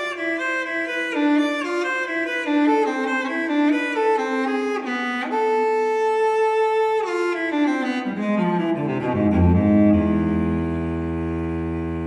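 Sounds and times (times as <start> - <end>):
slow bowed string music: 0.0 - 12.0.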